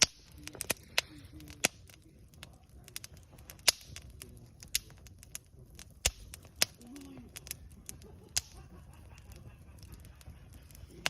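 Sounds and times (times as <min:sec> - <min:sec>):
fire rumbling: 0:00.0 - 0:11.0
wood crackling and popping: 0:00.0 - 0:11.0.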